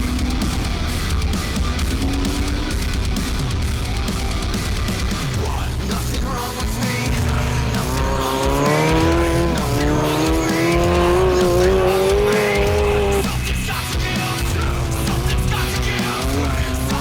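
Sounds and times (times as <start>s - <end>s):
background music: 0.0s - 17.0s
off-road vehicle engine revving: 0.0s - 17.0s.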